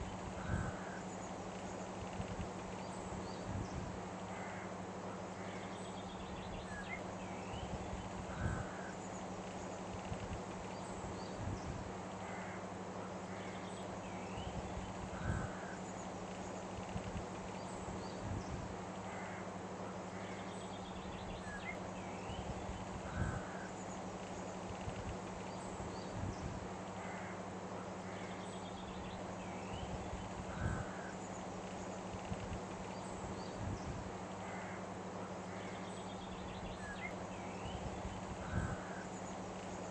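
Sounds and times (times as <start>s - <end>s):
bird calls: 0.0s - 39.9s
steady hiss and low hum: 0.0s - 39.9s.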